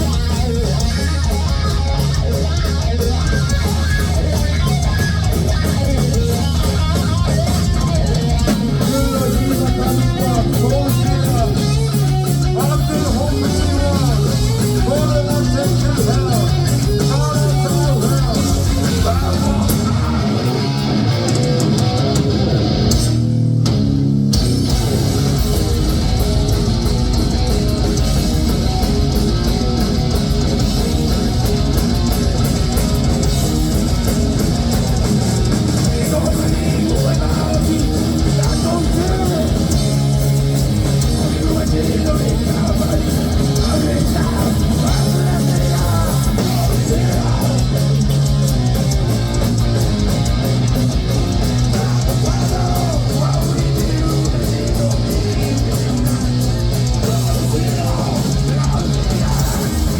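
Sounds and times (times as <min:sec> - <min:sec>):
distorted electric guitars: 0:00.0 - 0:59.9
fast drums and cymbals: 0:00.0 - 0:59.9
heavy bass line: 0:00.0 - 0:59.9.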